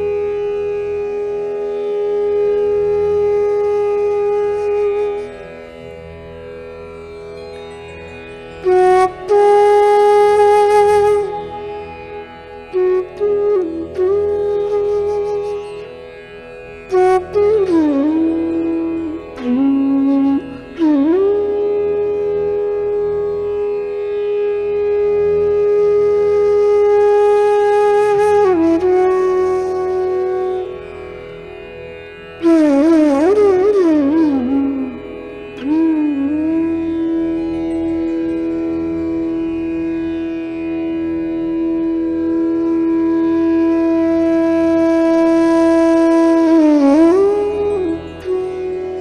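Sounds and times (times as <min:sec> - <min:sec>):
conch shell blown: 0:00.0 - 0:05.3, 0:08.6 - 0:15.9, 0:16.9 - 0:30.8, 0:32.4 - 0:49.0.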